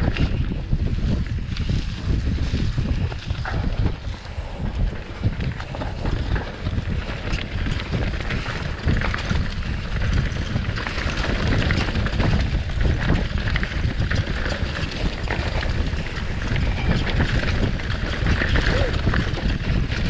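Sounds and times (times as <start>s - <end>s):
bike rattling and knocking: 0.0s - 20.0s
bike tyres rolling over dirt: 0.0s - 20.0s
wind rumbling on microphone: 0.0s - 20.0s.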